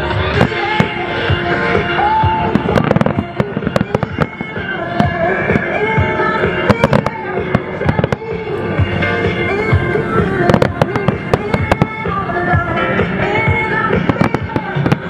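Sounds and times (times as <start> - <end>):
music playing: 0.0 - 15.0
fireworks bursting: 0.3 - 15.0.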